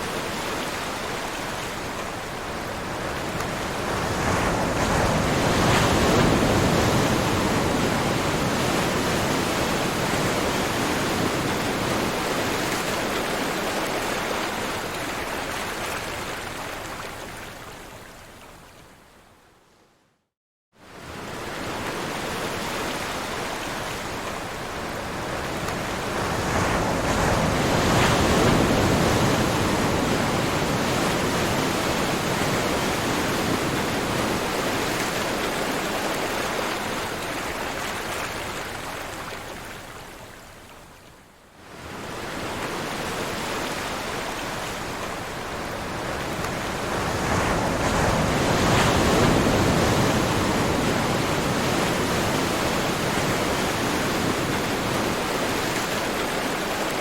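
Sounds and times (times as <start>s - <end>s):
ocean surf: 0.0s - 17.7s, 20.8s - 40.4s, 41.7s - 57.0s.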